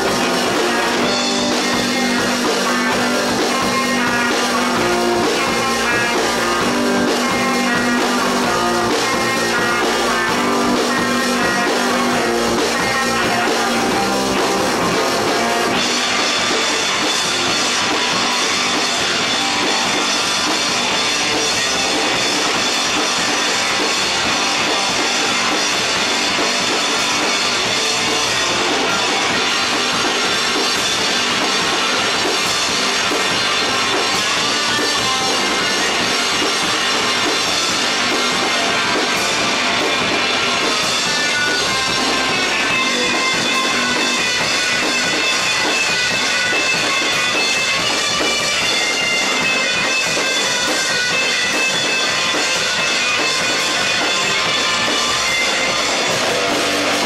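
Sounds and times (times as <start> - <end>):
rock band playing loud: 0.0 - 57.0.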